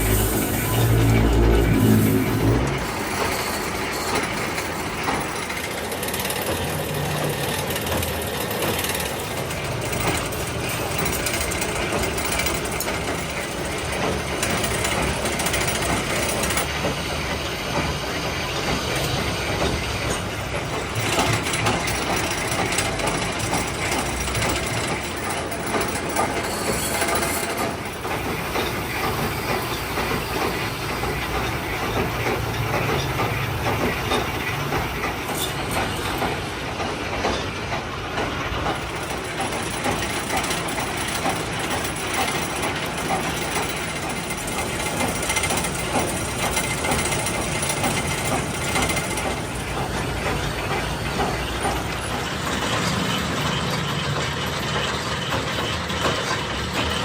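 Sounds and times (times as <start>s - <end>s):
metalworking machine clattering: 0.0s - 57.0s.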